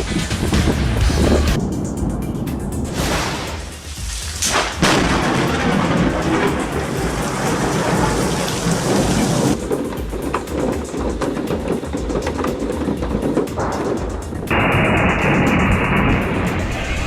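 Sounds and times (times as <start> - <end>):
heavy rain: 0.0 - 17.0
low thunder rumble: 0.0 - 17.0.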